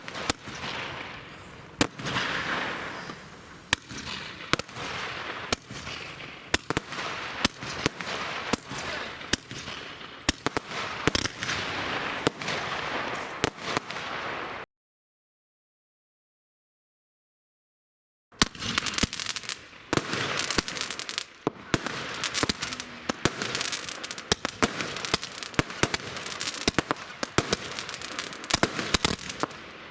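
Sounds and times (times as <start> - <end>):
fireworks bangs: 0.0 - 14.6, 18.4 - 29.9
fireworks crackling and hissing: 0.0 - 14.7, 18.4 - 29.9.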